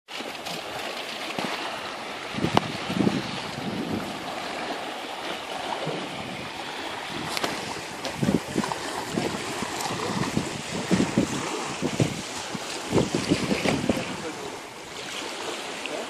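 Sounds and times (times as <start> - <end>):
small waves lapping on rocks: 0.1 - 16.0
wind on microphone: 2.1 - 15.5.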